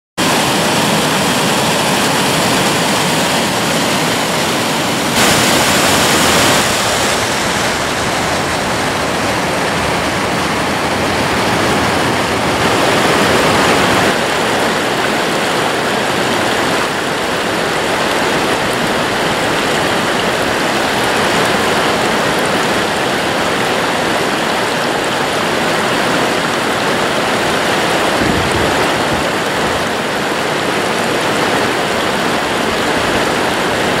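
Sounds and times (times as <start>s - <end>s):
waterfall rushing over rocks: 0.2s - 34.0s.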